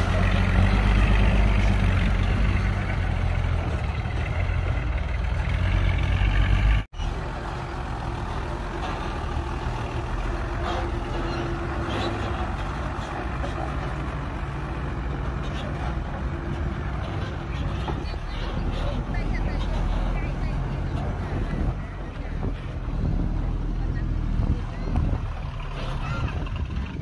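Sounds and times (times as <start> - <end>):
diesel truck engine rumbling: 0.0 - 27.0.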